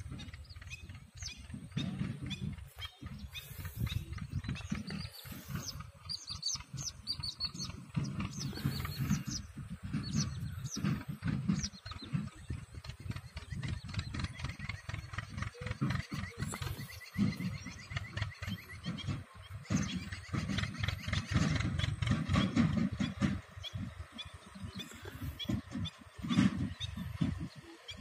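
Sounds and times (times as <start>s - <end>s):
small birds chirping: 0.0s - 28.0s
wind rumble on microphone: 0.0s - 28.0s.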